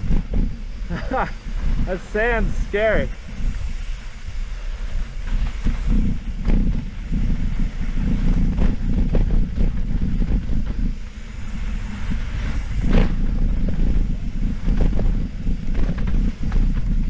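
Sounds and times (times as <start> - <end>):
mountain bike rumble and rattle: 0.0 - 17.0
wind buffeting microphone: 0.0 - 17.0.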